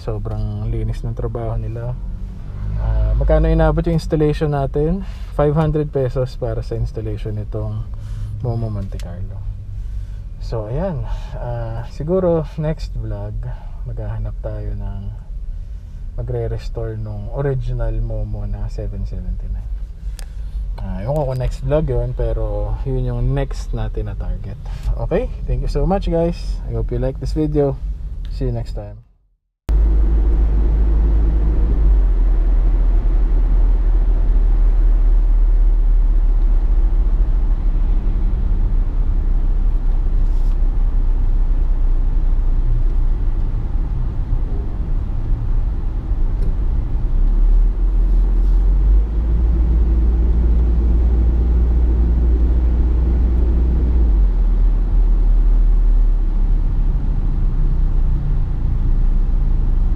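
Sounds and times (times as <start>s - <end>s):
vehicle low rumble: 0.0s - 59.9s.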